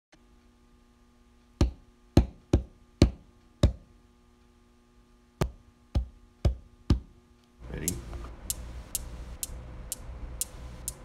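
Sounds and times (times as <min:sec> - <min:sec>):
faint steady hum: 0:00.2 - 0:11.0.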